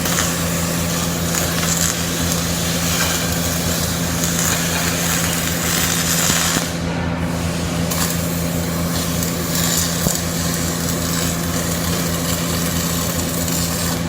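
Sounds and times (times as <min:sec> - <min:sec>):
welding crackling hiss: 0:00.0 - 0:14.0.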